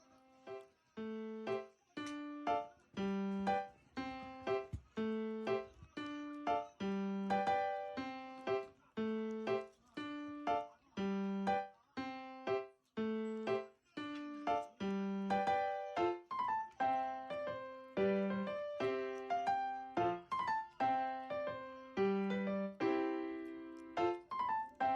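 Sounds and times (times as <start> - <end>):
light keyboard tune: 0.0 - 24.9.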